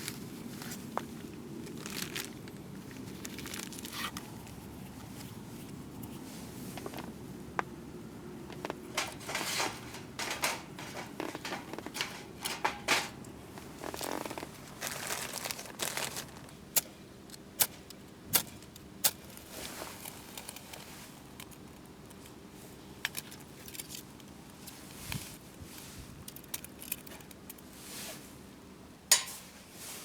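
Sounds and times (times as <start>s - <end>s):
gear rustling and crinkling: 0.0s - 7.8s, 8.4s - 16.7s, 18.5s - 28.4s.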